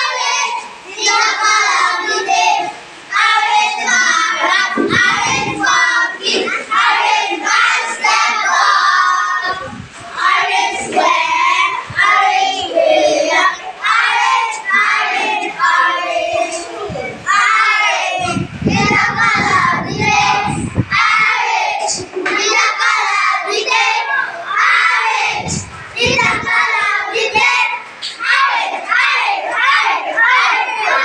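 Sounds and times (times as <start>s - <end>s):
young children singing: 0.0s - 31.0s.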